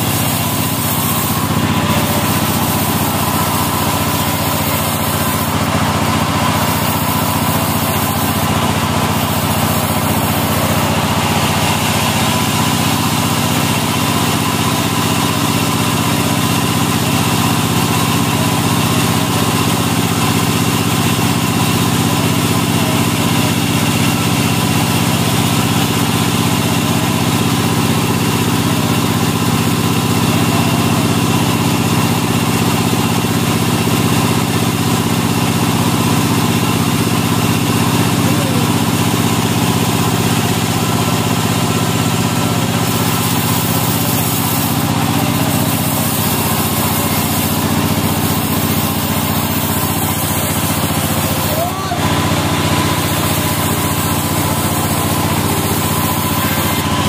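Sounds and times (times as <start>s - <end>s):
saw blade hissing through wood: 0.0s - 57.0s
sawmill machine hum: 0.0s - 57.0s.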